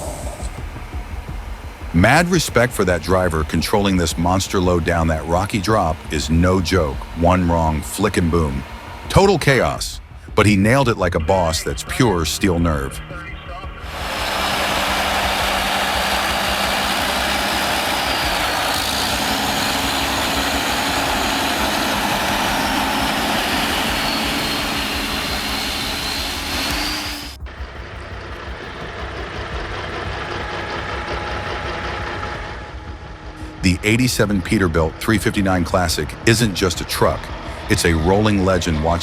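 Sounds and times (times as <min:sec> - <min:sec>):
loud rushing noise: 0:00.0 - 0:10.4, 0:13.8 - 0:39.0
diesel truck engine: 0:00.0 - 0:12.8, 0:13.6 - 0:39.0.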